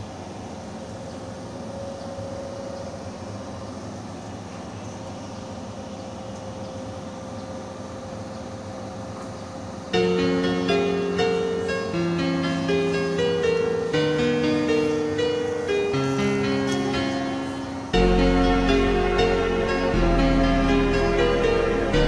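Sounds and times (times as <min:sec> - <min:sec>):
background rumble and hiss: 0:00.0 - 0:22.0
faint hum: 0:00.0 - 0:22.0.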